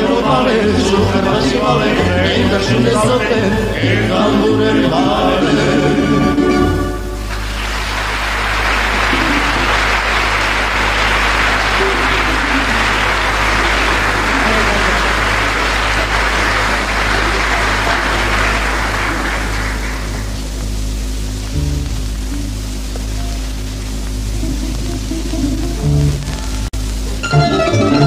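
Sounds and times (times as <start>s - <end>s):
audience applauding: 0.0s - 28.0s
low mains hum: 0.0s - 28.0s.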